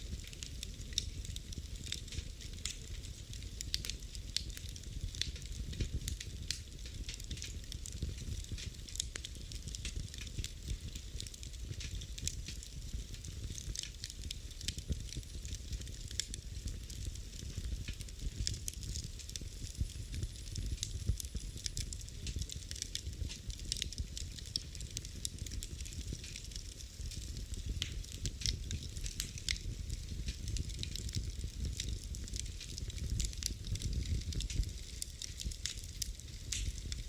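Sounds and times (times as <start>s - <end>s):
fireplace fire crackling: 0.0s - 37.0s
low rumble of flames: 0.0s - 37.0s.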